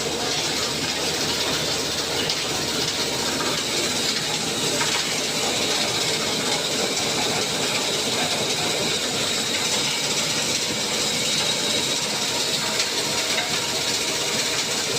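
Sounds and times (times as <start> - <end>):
concrete mixer running: 0.0 - 14.9.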